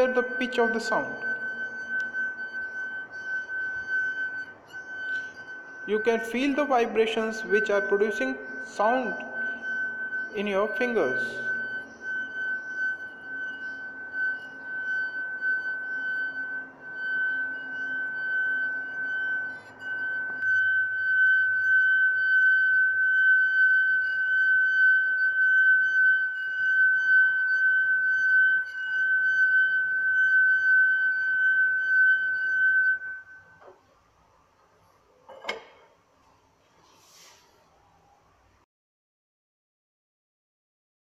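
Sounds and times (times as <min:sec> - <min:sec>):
glass funnel ringing tone: 0:00.0 - 0:33.8.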